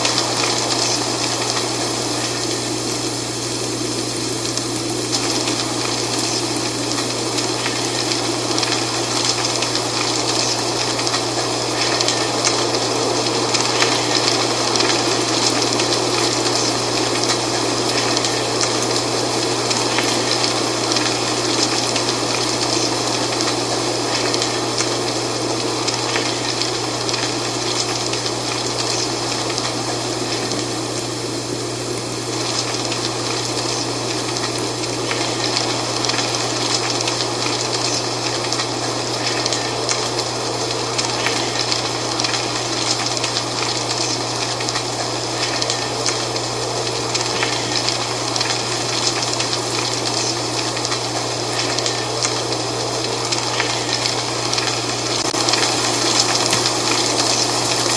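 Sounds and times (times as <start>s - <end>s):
dry leaves rustling in wind: 0.0s - 57.9s.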